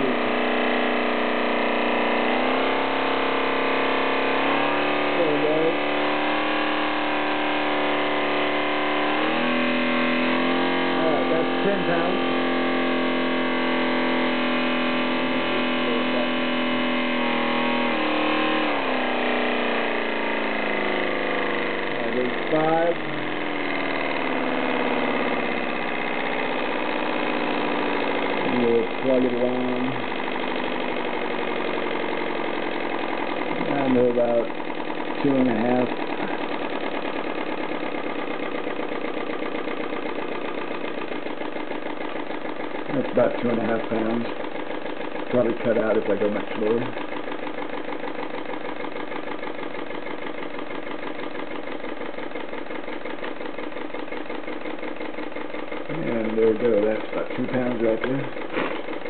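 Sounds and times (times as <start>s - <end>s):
model engine high mechanical whine: 0.0s - 59.0s.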